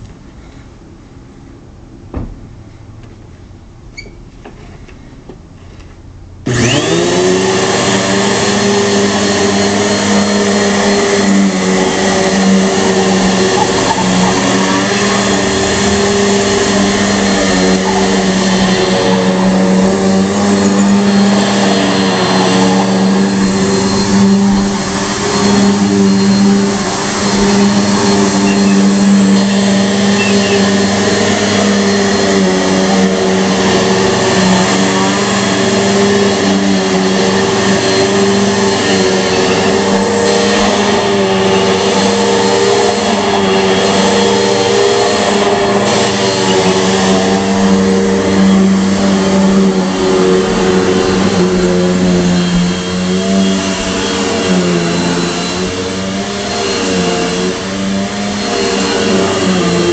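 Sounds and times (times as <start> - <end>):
vacuum cleaner motor hum: 6.4 - 59.9.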